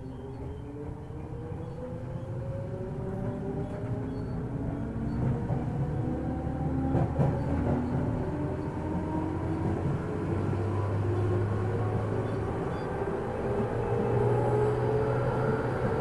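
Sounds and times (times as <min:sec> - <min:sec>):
low train running rumble: 0:00.0 - 0:16.0.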